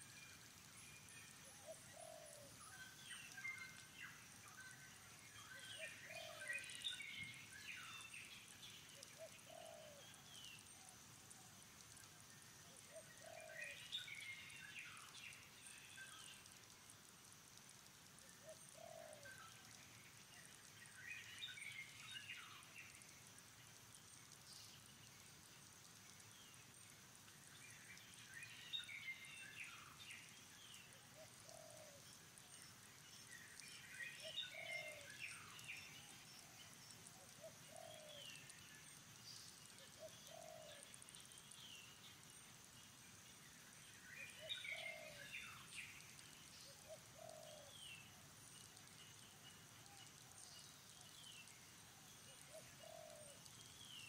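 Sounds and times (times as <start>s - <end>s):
bird chirping: 0.0s - 16.6s, 17.8s - 25.3s, 26.0s - 54.0s.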